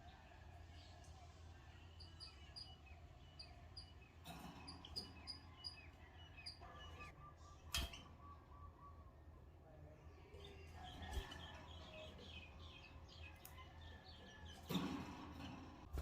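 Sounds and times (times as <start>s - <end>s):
canaries chirping: 0.0s - 16.0s.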